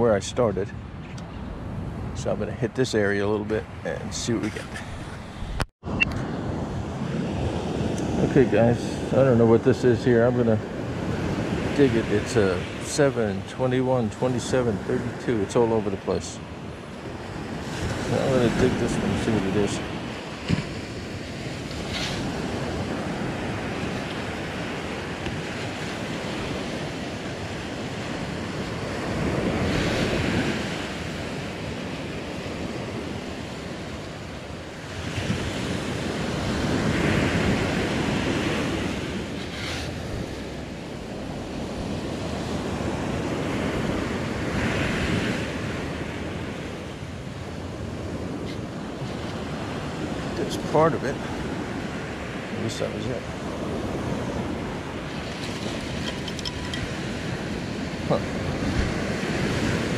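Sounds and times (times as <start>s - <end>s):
surf washing up beach: 0.0s - 59.9s
wind buffeting microphone: 0.0s - 59.9s.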